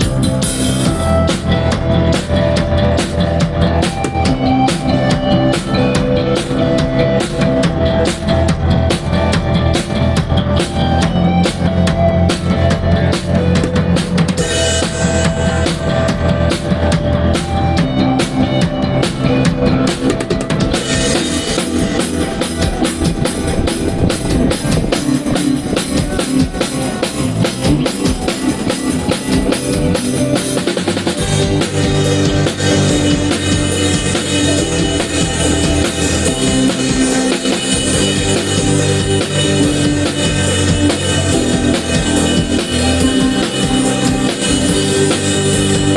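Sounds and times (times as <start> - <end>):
bass drum and snare strokes: 0.0 - 45.9
live band playing: 0.0 - 45.9.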